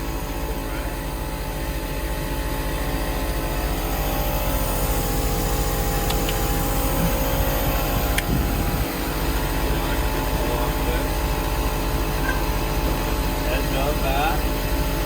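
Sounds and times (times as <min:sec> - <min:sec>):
motor droning: 0:00.0 - 0:15.0.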